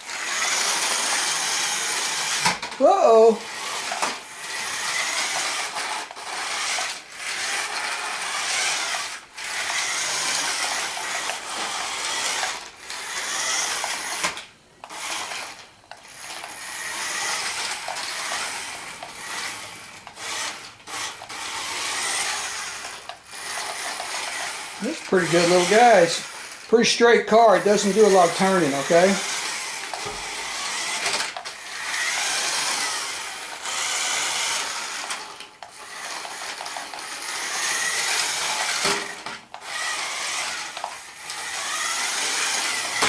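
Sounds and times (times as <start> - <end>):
toy truck motor whirring: 0.0 - 43.0.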